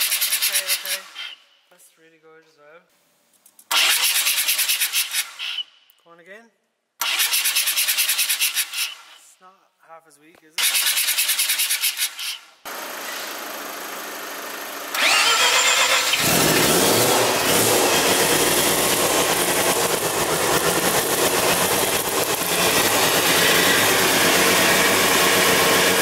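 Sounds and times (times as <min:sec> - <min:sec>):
rotary engine starting and running: 0:00.0 - 0:01.4, 0:03.7 - 0:05.6, 0:07.0 - 0:09.2, 0:10.6 - 0:26.0.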